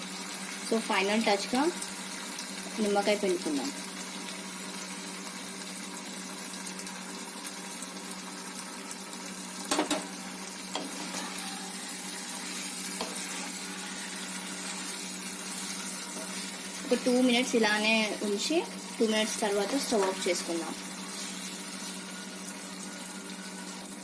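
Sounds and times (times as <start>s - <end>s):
fish sizzling in a pan: 0.0s - 24.0s.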